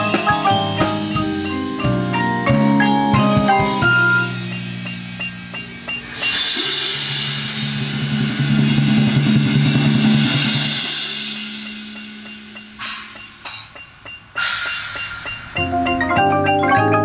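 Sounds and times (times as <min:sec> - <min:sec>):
shimmering cymbal wash: 0:00.0 - 0:15.9
bright cymbal strokes: 0:00.0 - 0:16.0
marimbas holding low chord: 0:00.0 - 0:17.0.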